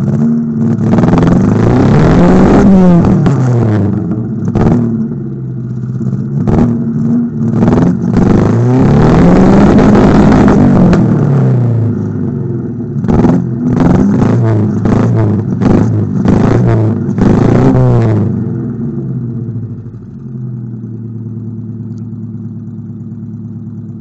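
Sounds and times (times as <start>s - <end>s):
car engine idling and revving: 0.0s - 24.0s
exhaust cracks: 0.0s - 24.0s.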